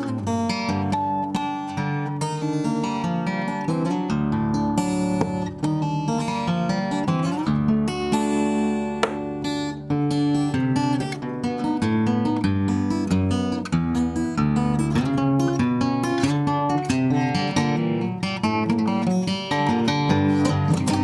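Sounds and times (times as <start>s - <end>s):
fingerstyle acoustic guitar: 0.0s - 21.0s.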